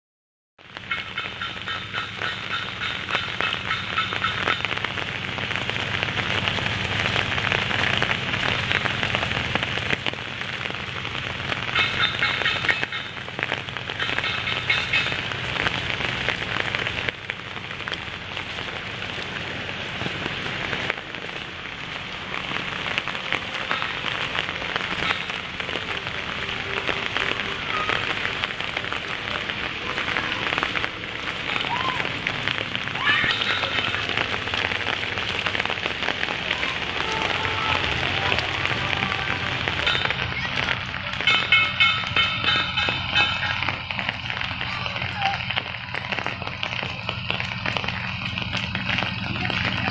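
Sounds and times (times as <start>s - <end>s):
rain falling on leaves: 0.6s - 49.9s.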